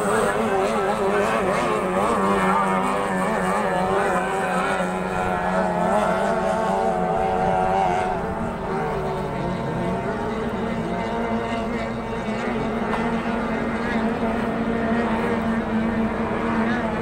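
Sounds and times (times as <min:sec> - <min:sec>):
engine whine wavering: 0:00.0 - 0:17.0
outboard engine drone: 0:00.0 - 0:17.0.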